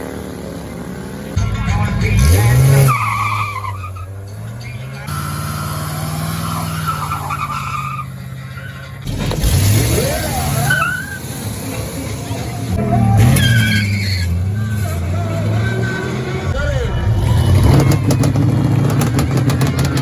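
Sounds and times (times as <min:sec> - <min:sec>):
racing car engines revving: 0:00.0 - 0:20.0
tyre squeal: 0:02.2 - 0:20.0.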